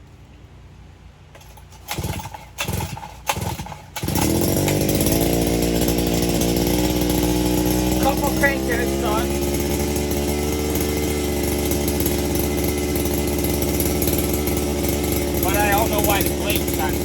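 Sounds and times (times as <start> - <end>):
small engine sputtering and running: 1.3 - 17.0.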